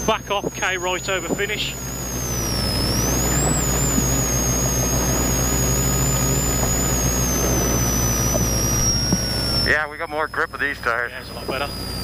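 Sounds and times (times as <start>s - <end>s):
high whine: 0.0s - 12.0s
rally car engine from inside cabin: 0.0s - 12.0s.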